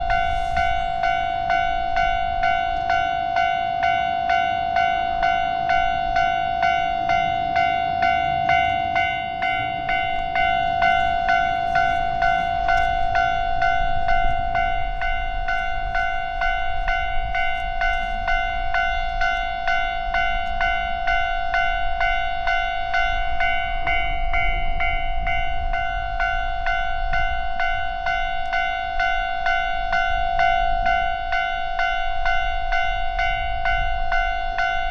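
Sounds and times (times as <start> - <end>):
level-crossing warning bell ringing: 0.0 - 34.9.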